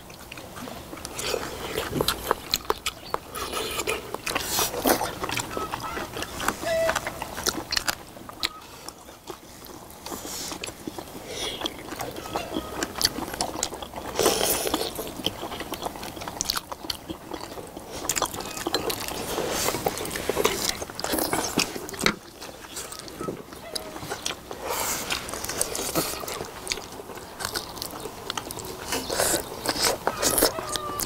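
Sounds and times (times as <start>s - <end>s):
people chewing soft meat: 0.0s - 31.0s.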